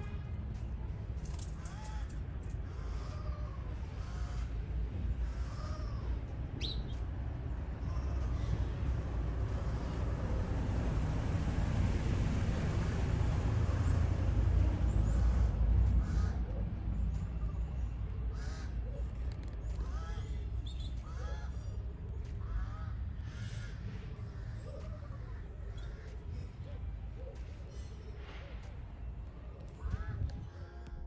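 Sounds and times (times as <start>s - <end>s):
birds calling: 1.3s - 11.4s, 13.5s - 28.8s.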